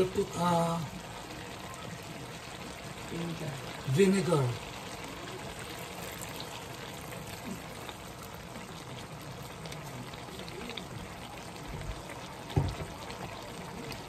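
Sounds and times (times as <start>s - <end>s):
liquid pouring into a hot pan: 0.0s - 14.0s
pan sizzling: 0.0s - 14.0s.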